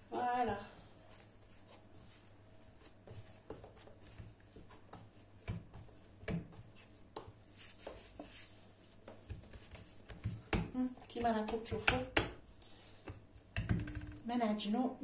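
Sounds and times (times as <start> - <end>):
hands rubbing dough: 0.0 - 13.6.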